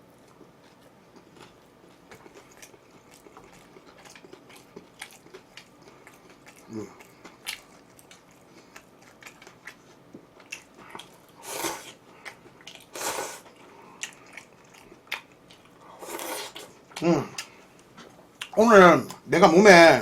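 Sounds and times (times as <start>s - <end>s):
chewing with wet mouth clicks: 0.2s - 11.4s, 12.1s - 15.8s, 16.5s - 18.6s.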